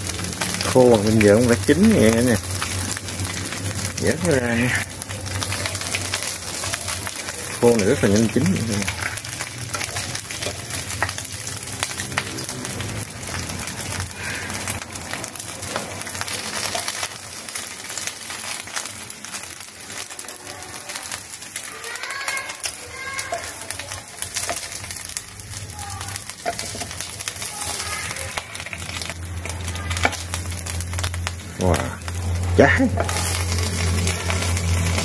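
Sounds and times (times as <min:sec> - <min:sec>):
fish sizzling in a pan: 0:00.0 - 0:35.0.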